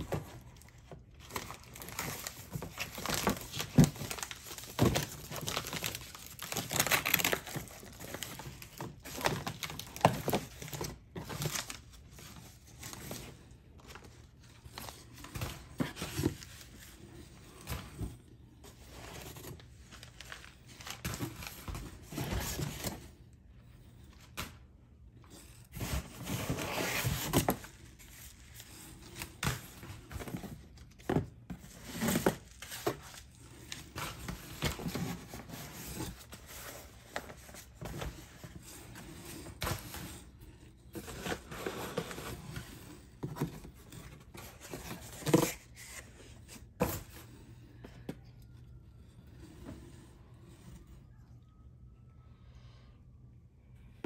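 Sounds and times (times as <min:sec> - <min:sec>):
cardboard rustling and scraping: 0:00.0 - 0:24.6, 0:25.2 - 0:50.9.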